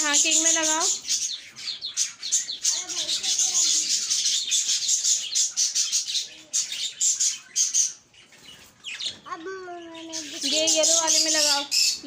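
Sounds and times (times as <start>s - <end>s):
small birds chirping and twittering: 0.0s - 12.0s.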